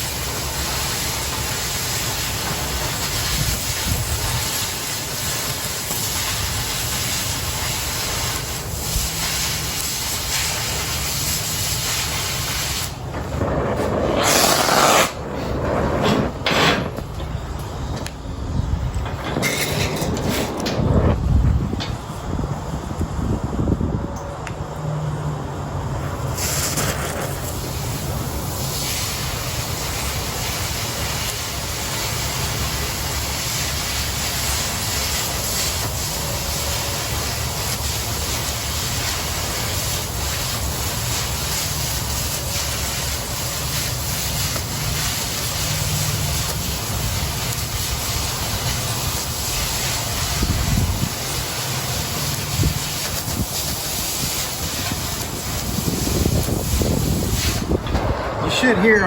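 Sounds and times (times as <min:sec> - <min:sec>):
cutting torch hissing: 0:00.0 - 0:21.4, 0:26.0 - 0:59.0.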